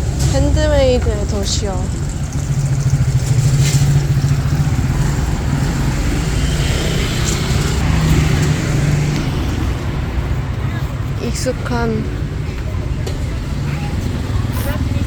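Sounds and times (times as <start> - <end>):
street traffic: 0.0 - 15.0
vehicle engine rumbling: 0.0 - 15.0.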